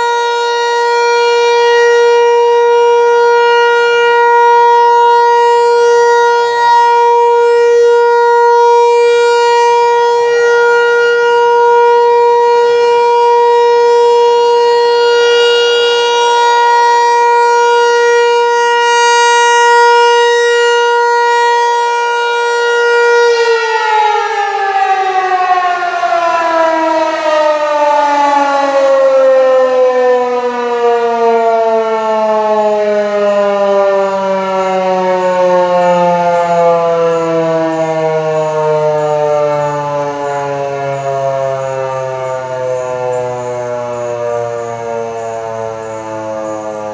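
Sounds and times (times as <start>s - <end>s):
outdoor warning siren: 0.0s - 46.9s.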